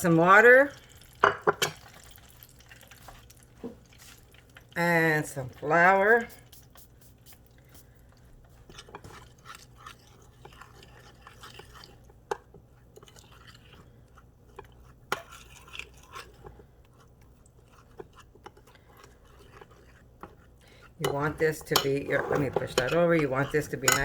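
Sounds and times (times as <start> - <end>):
utensil scraping bowl: 0.0 - 24.0.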